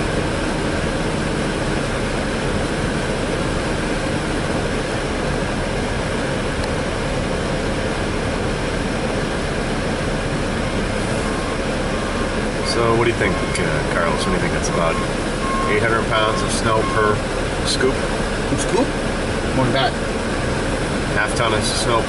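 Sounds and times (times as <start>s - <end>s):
heavy machinery engines running: 0.0s - 22.0s.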